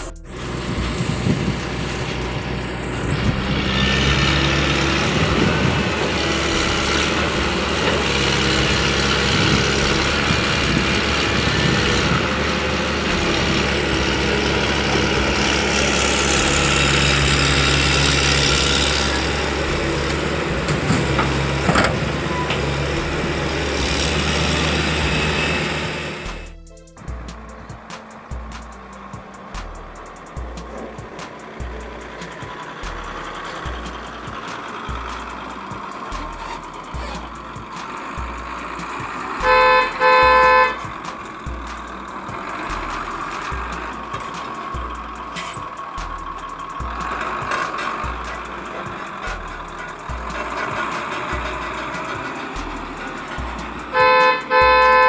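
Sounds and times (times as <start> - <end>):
large vehicle engine idling: 0.0 - 55.0.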